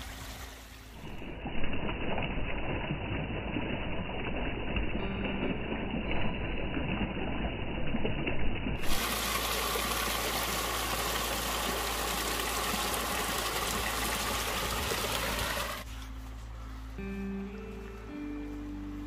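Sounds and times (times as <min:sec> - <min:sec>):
stream trickling over boulders: 0:00.0 - 0:15.9.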